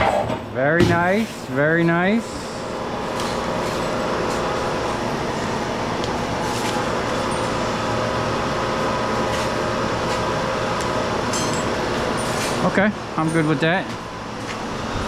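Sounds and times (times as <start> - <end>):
machine running steadily: 0.0 - 15.0.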